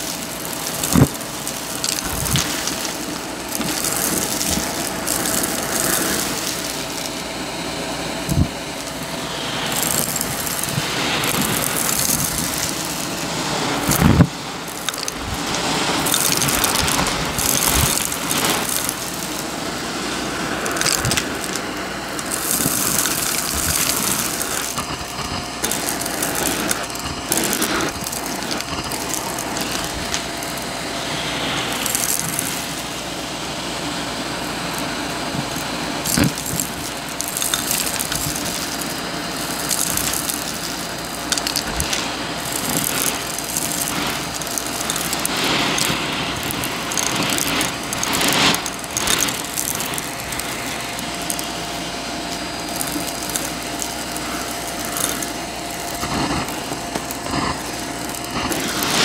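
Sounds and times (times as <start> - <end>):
debris crunching and rattling: 0.0 - 59.0
vacuum cleaner whining: 0.0 - 59.0.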